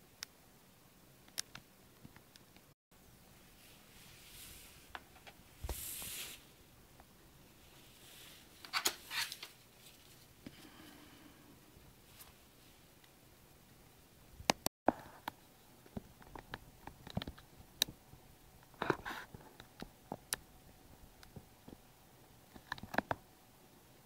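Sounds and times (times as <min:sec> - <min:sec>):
faint steady background noise: 0:00.0 - 0:24.0.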